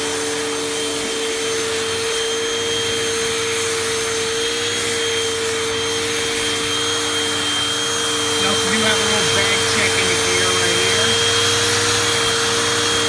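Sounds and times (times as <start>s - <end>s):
vacuum cleaner motor running: 0.0s - 13.0s.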